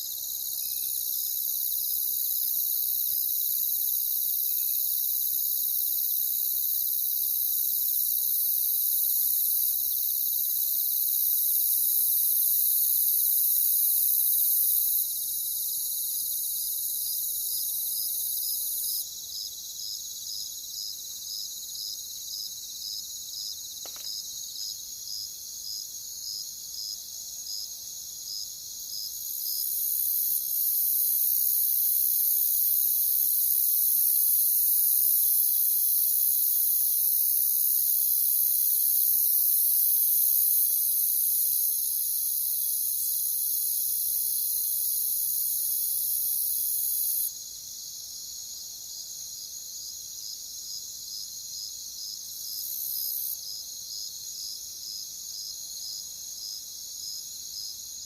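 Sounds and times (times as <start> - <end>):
crickets chorus: 0.0 - 58.0
single cricket chirping: 0.0 - 58.0.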